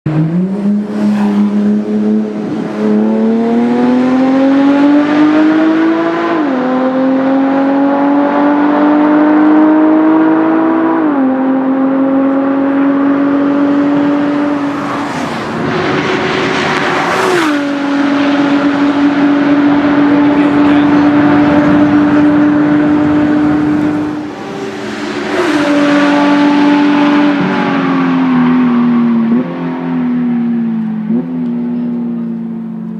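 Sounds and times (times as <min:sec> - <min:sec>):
car engine accelerating: 0:00.1 - 0:32.9.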